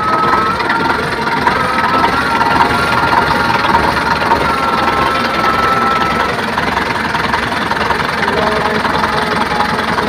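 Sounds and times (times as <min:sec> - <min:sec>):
tractor diesel engine idling: 0:00.0 - 0:10.0.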